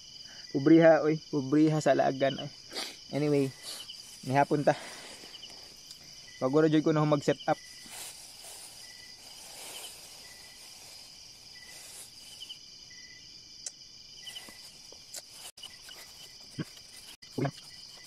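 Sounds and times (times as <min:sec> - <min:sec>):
insect chirps: 0:00.0 - 0:18.0
insect trill: 0:00.0 - 0:18.0.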